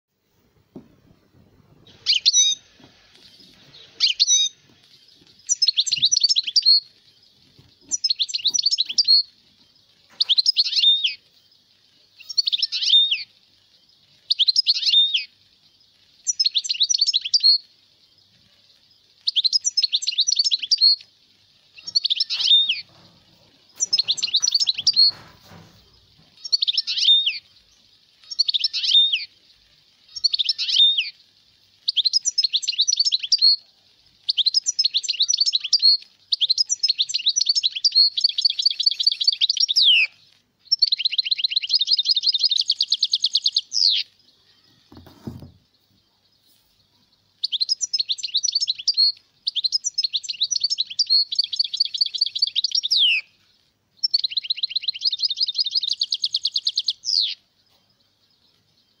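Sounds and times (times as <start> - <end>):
goldfinch twittering song: 1.4 - 59.0.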